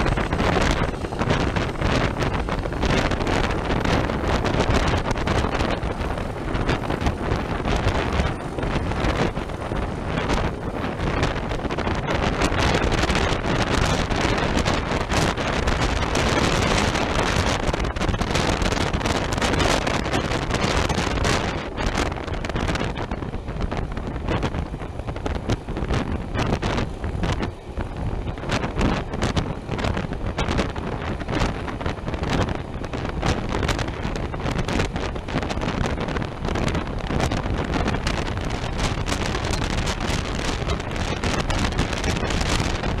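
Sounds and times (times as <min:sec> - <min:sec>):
train running noise: 0:00.0 - 0:43.0
wind buffeting microphone: 0:00.0 - 0:43.0.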